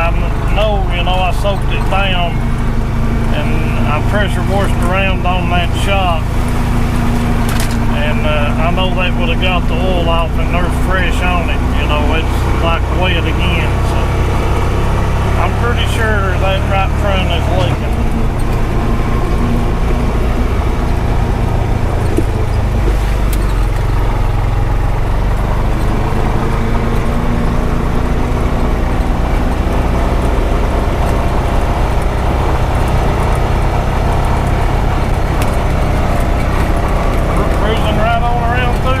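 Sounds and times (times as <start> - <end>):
engine running on rough road: 0.0 - 39.0.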